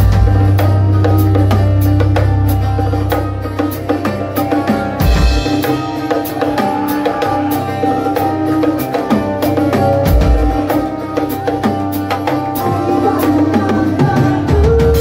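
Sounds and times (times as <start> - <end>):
drum kit steady beat: 0.0 - 15.0
electric guitars: 0.0 - 15.0.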